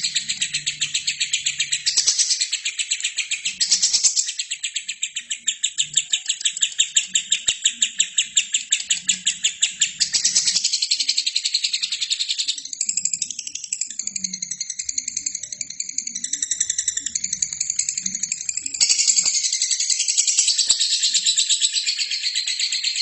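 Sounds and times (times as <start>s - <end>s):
bird singing high chirps: 0.0s - 23.0s.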